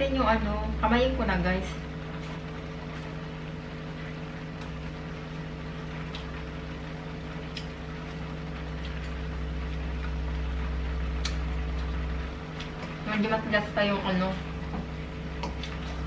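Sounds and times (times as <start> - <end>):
kitchen appliance humming: 0.0 - 16.0.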